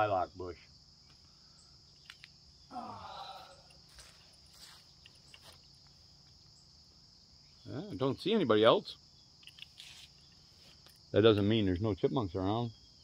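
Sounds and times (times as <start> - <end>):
high-pitched insect drone: 0.0 - 11.6.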